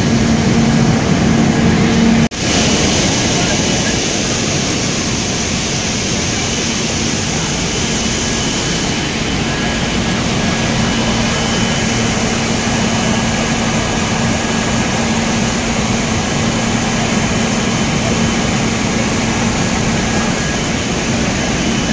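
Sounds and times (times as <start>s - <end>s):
processing machinery running: 0.0s - 21.9s.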